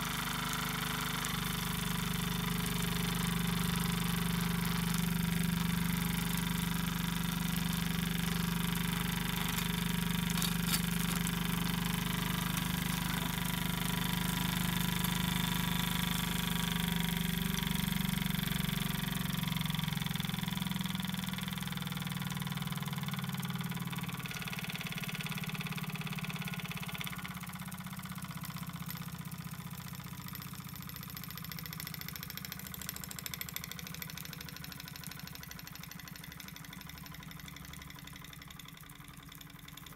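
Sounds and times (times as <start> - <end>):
model steam engine running: 0.0 - 39.9.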